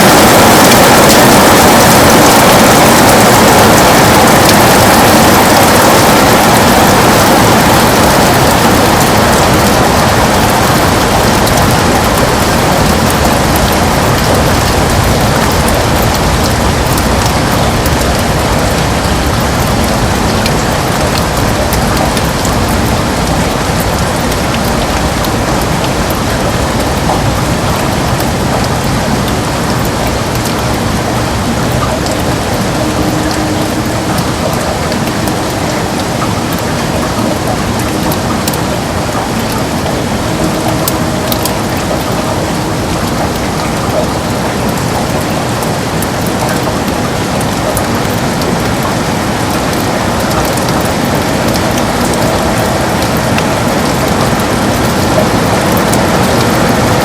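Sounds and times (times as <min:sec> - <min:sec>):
heavy rain on a window: 0:00.0 - 0:57.0.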